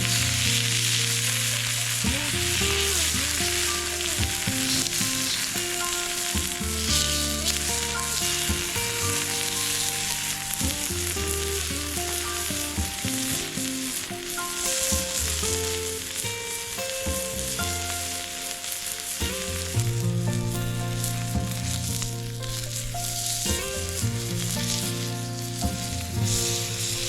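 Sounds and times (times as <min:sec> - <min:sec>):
background music: 0:00.0 - 0:27.0
meat sizzling on a griddle: 0:00.0 - 0:27.0.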